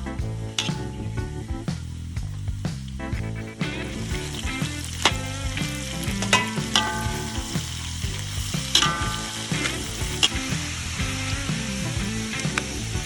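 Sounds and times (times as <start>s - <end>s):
chicken sizzling in a pan: 1.7s - 13.0s.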